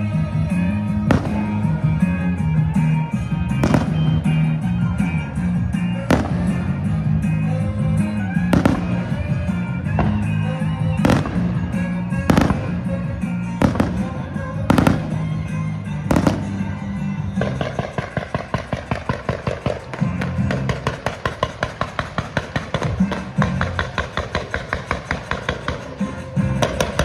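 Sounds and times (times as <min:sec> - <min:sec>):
music: 0:00.0 - 0:27.0
fireworks banging: 0:00.7 - 0:27.0.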